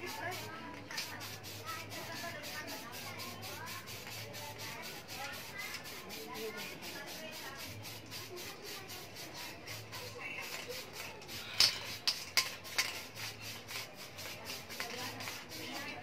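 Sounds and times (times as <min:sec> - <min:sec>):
rubbing and rattling of objects: 0:00.0 - 0:16.0.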